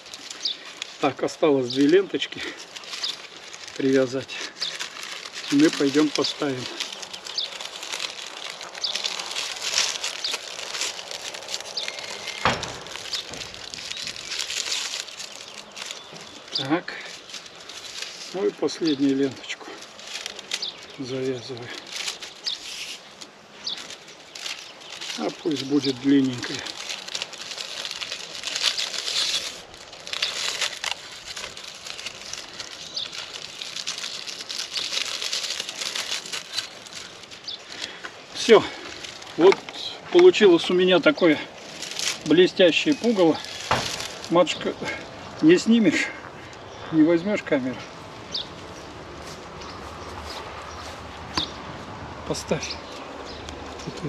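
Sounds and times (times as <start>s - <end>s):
plastic ribbon crinkling: 0.0s - 51.7s, 52.3s - 54.0s
small birds chirping: 0.0s - 54.0s.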